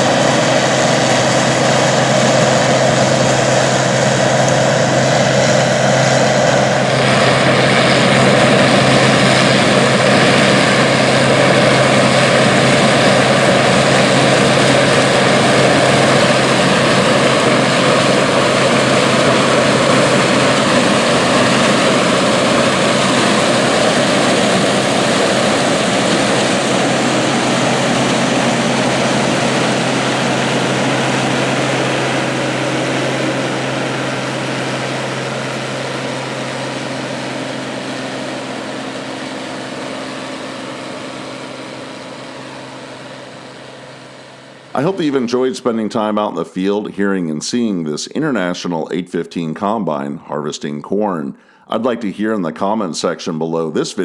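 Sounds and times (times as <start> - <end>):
combine engine drone: 0.0 - 52.0
combine harvesting noise: 0.0 - 54.0.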